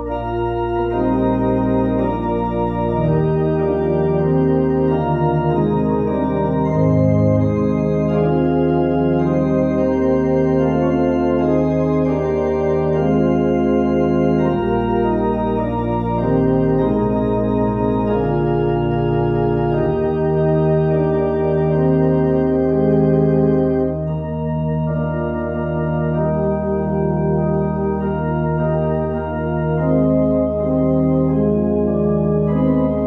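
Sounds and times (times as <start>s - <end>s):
organ playing sustained chords: 0.0s - 33.0s.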